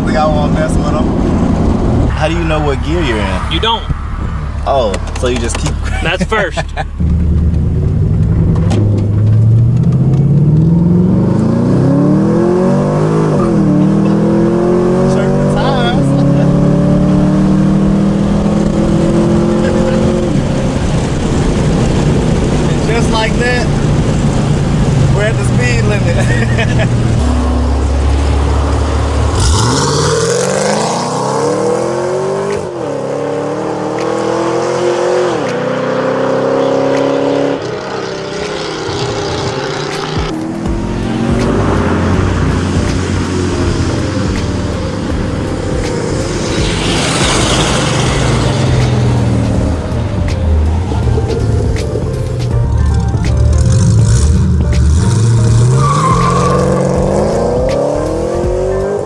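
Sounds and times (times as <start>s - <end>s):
car engine at full throttle: 0.0s - 59.0s.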